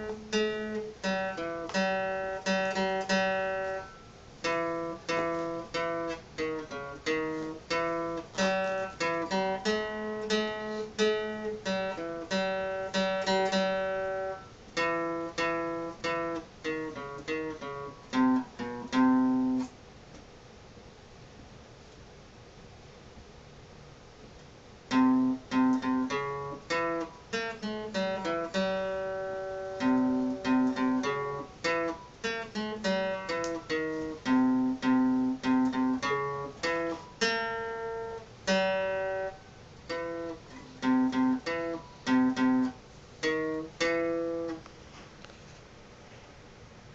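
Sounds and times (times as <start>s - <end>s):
acoustic guitar picking melody: 0.0s - 19.7s, 24.8s - 45.1s.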